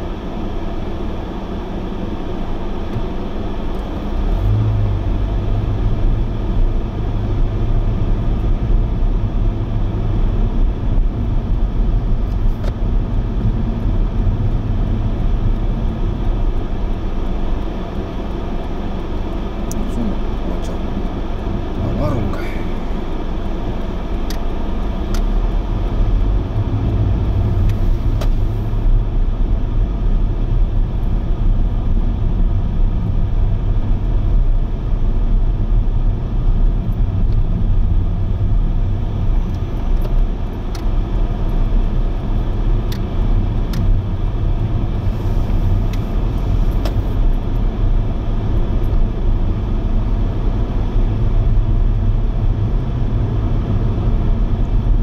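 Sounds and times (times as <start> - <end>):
vehicle rumbling in motion: 0.0 - 55.0.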